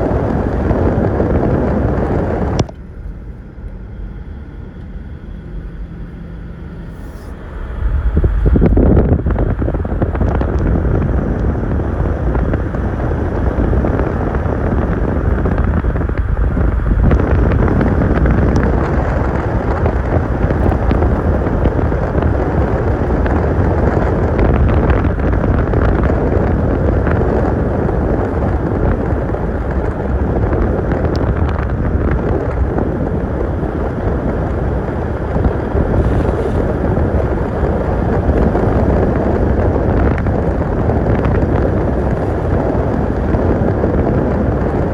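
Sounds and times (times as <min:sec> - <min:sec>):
road and engine noise: 0:00.0 - 0:44.9
wind buffeting microphone: 0:00.0 - 0:44.9.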